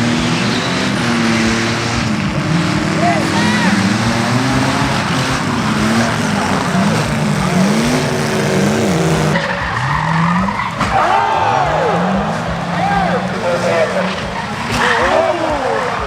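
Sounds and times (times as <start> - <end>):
race car engines revving: 0.0 - 16.0
tire squeal: 0.0 - 16.0.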